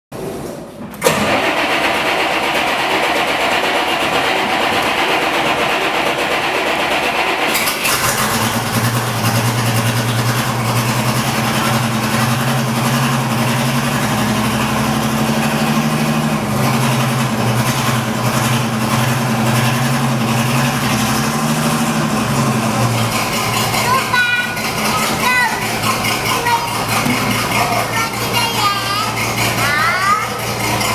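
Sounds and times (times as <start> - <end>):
engine cranking: 0.9 - 30.9
locomotive engine humming: 1.0 - 30.9.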